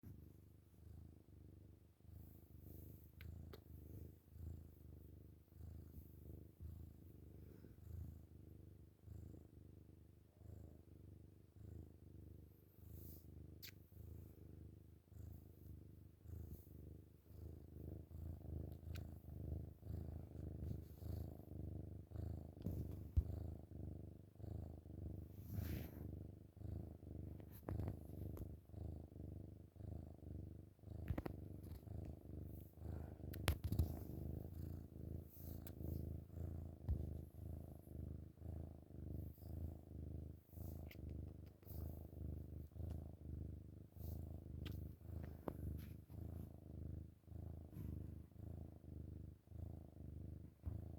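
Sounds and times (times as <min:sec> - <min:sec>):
kitten purring: 0:00.0 - 0:50.9.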